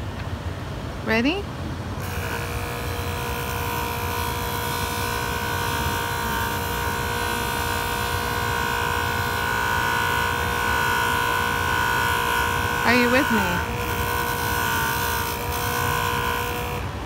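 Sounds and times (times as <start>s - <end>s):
rotary polisher motor whining: 2.0s - 17.0s.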